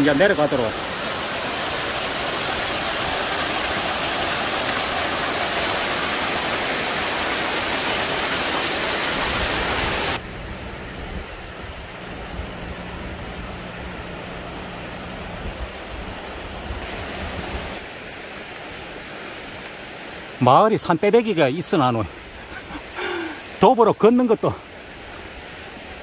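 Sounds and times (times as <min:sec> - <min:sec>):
stream rushing over boulders: 0:00.0 - 0:26.0.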